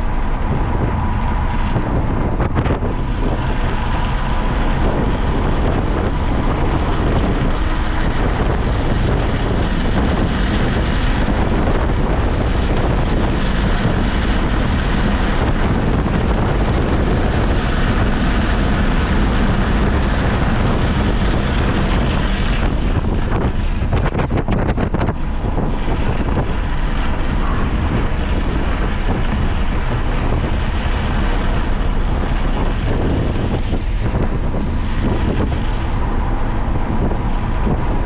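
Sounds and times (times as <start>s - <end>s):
car engine at speed: 0.0s - 38.0s
road noise: 0.0s - 38.0s
wind buffeting microphone: 0.0s - 38.0s.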